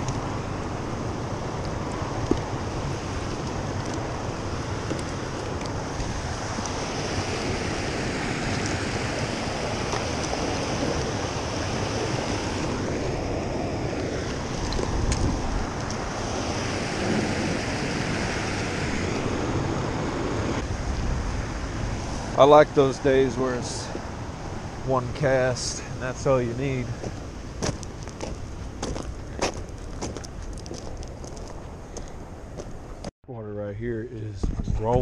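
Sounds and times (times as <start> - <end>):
river current rushing: 0.0 - 33.0
wind buffeting microphone: 0.0 - 33.1, 33.8 - 35.0.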